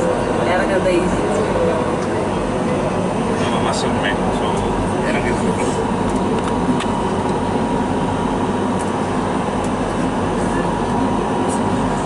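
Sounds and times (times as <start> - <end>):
funicular car rumbling along track: 0.0 - 12.0.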